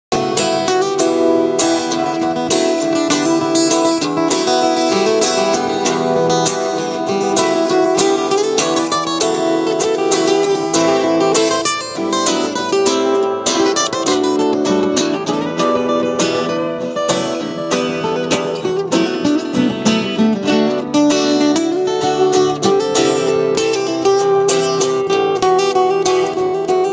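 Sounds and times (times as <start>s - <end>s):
fingerstyle acoustic guitar: 0.1s - 26.9s.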